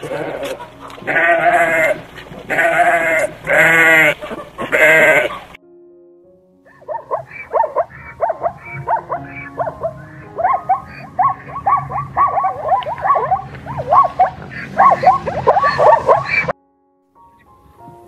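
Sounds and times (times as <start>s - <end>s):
zebra yelping barks: 0.0s - 5.6s, 6.7s - 16.5s.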